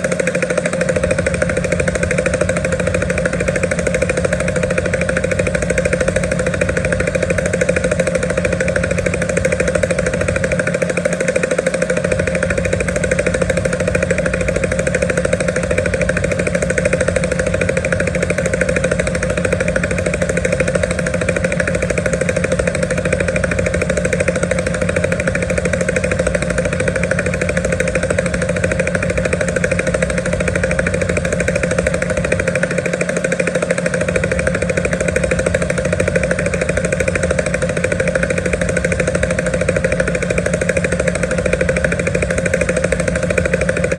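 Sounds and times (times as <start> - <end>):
helicopter engine tone: 0.0 - 43.9
helicopter rotor blade slap: 0.0 - 43.9.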